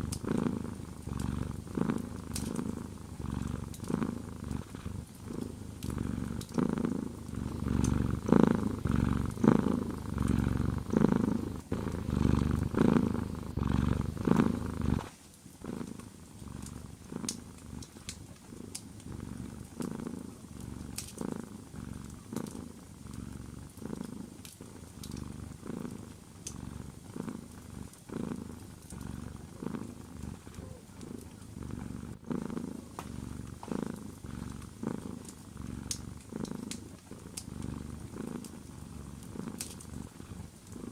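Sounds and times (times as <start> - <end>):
wood fire crackling: 0.0 - 31.4, 32.0 - 40.9
cat purring: 0.0 - 40.9.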